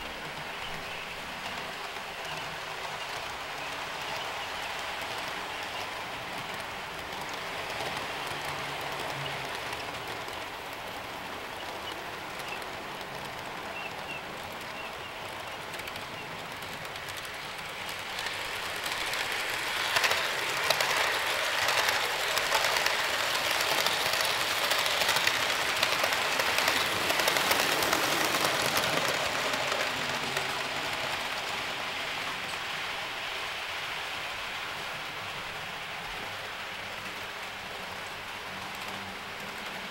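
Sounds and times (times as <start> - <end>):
model trains rattling on track: 0.0 - 39.9
rapid small clicks of train cars: 0.0 - 39.9.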